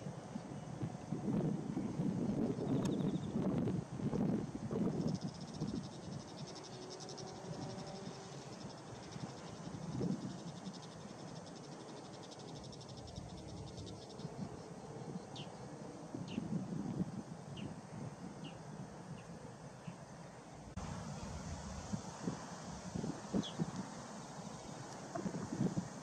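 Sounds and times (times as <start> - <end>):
high insect trill: 0.0 - 26.0
low wind rumble: 0.0 - 26.0.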